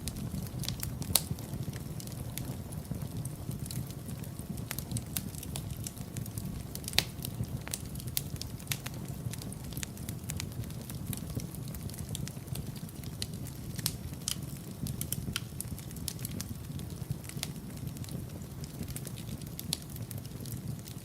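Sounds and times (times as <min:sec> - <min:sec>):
fire crackling and popping: 0:00.0 - 0:21.0
flames rumbling: 0:00.0 - 0:21.0.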